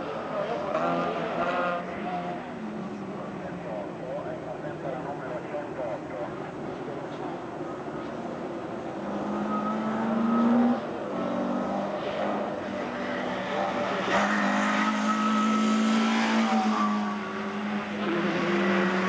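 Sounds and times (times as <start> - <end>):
race car engine at high revs: 0.0 - 19.0.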